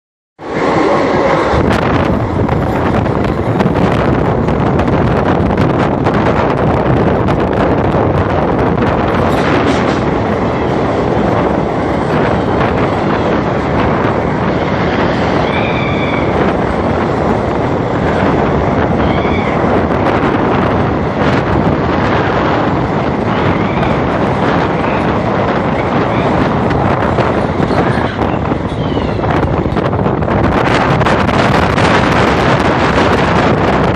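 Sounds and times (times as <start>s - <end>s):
moving train running noise: 0.4s - 33.9s
wind buffeting microphone: 0.4s - 33.9s.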